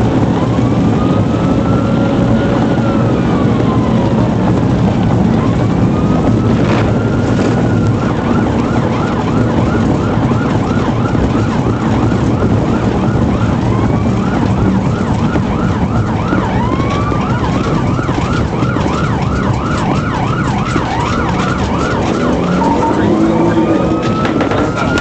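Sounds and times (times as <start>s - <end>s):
police siren yelping: 0.0s - 25.0s
road and engine noise: 0.0s - 25.0s.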